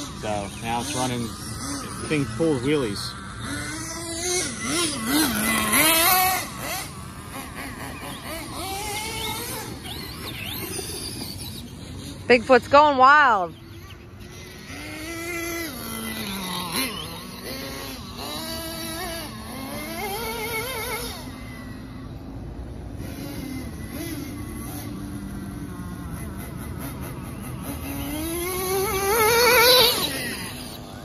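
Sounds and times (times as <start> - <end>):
small engine revving: 0.0 - 31.0.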